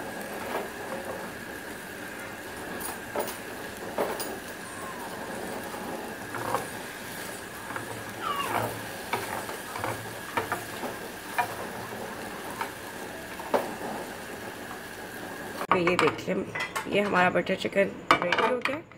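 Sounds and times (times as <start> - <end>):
wooden spoon scraping grill pan: 0.2 - 15.7.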